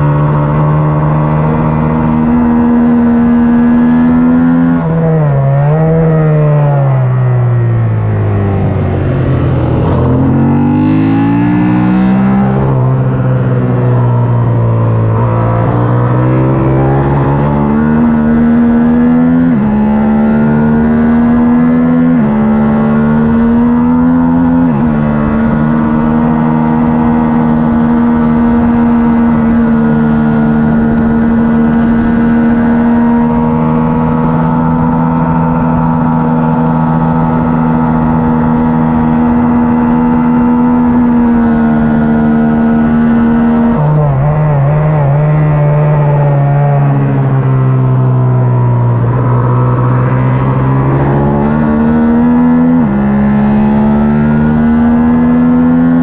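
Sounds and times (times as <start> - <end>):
racing motorcycle engine accelerating: 0.0 - 56.0.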